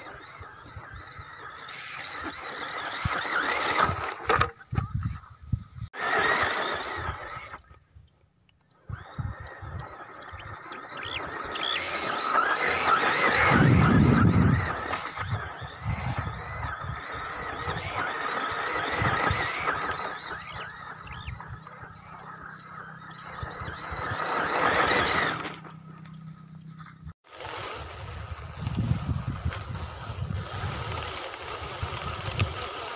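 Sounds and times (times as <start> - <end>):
electric motor whining: 0.0 - 7.9, 8.5 - 32.9.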